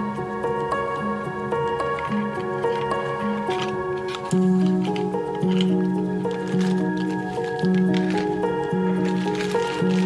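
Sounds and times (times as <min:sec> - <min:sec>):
music with held notes over drone: 0:00.0 - 0:10.0.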